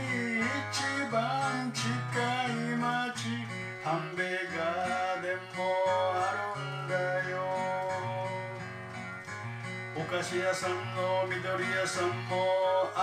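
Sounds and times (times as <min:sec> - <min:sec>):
digital guitar melody with bass notes: 0:00.0 - 0:13.0.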